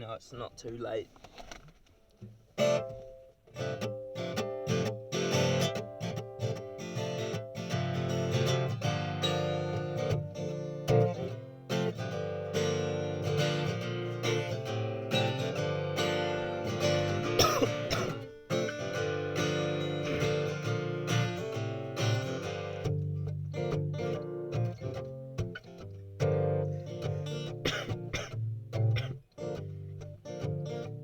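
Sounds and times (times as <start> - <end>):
acoustic guitar strumming: 2.2 - 31.0.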